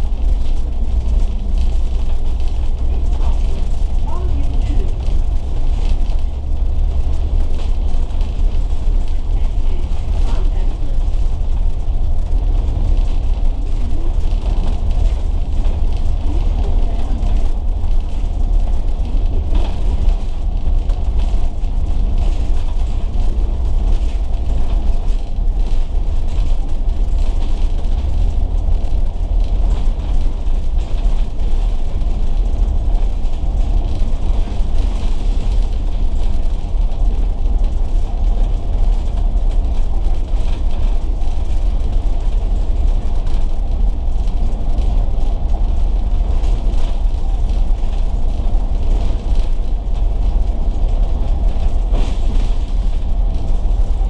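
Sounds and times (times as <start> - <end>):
bus engine low rumble: 0.0 - 54.0
rattles and creaks from bus body: 0.0 - 54.0.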